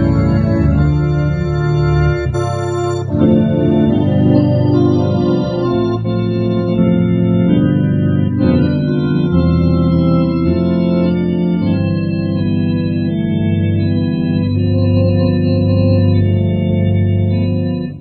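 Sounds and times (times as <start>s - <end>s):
electronic organ playing a tune: 0.0s - 18.0s.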